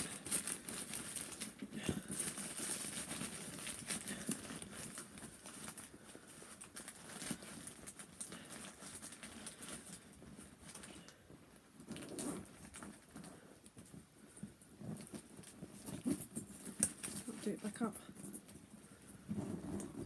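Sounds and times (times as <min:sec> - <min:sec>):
stuffing rustling and crinkling: 0:00.0 - 0:20.0.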